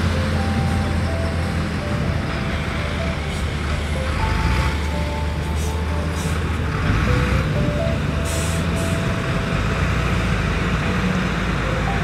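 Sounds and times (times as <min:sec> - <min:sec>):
background music: 0:00.0 - 0:12.0
diesel engine rumbling: 0:00.0 - 0:12.0.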